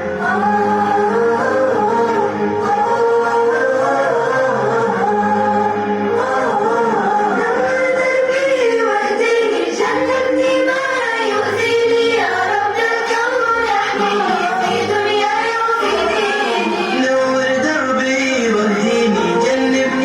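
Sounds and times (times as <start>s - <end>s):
children's song sung in unison: 0.0s - 20.0s.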